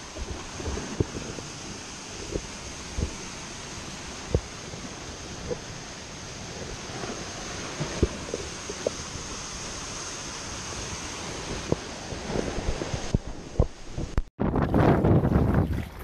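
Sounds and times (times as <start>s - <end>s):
wind noise on microphone: 0.0s - 9.8s, 10.5s - 16.0s
surf on rocky shore: 0.0s - 16.0s.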